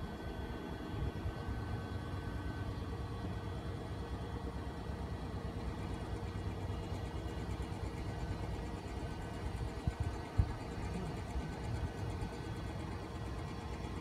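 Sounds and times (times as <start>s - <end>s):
faint high whine: 0.0s - 14.0s
low mechanical rumble: 0.0s - 14.0s.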